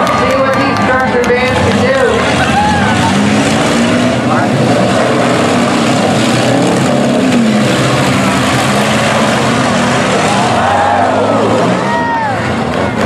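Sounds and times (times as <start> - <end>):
truck engines revving: 0.0 - 13.0.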